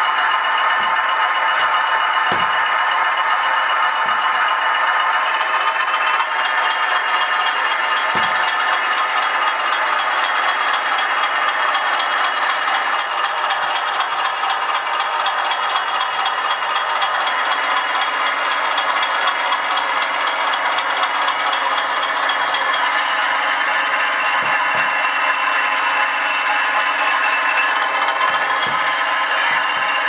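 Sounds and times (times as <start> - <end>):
model locomotive whirring rattle: 0.0 - 30.0.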